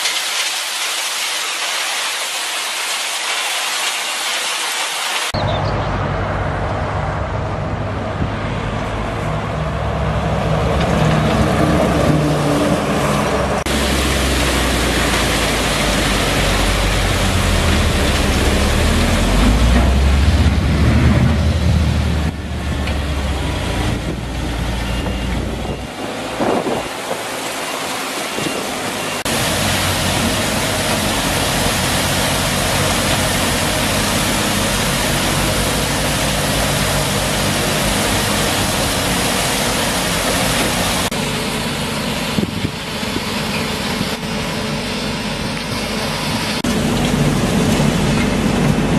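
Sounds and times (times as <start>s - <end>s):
dense rushing noise: 0.0s - 48.9s.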